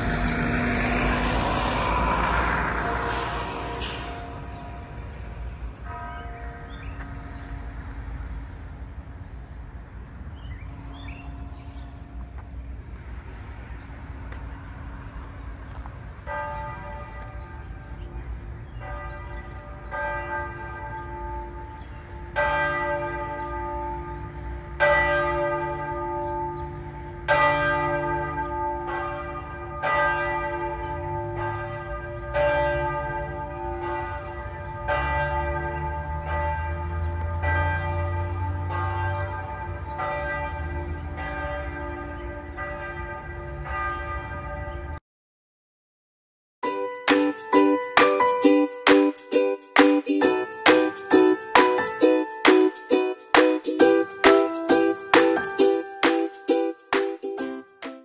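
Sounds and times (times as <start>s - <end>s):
church bells ringing: 0.0s - 8.5s, 10.6s - 12.9s, 14.5s - 45.0s, 46.6s - 58.0s.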